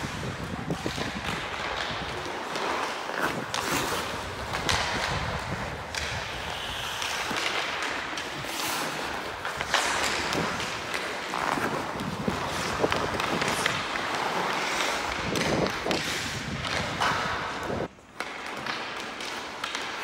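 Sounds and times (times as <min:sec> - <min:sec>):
skate blades scraping on ice: 0:00.0 - 0:20.0
sticks clacking on puck: 0:00.1 - 0:20.0.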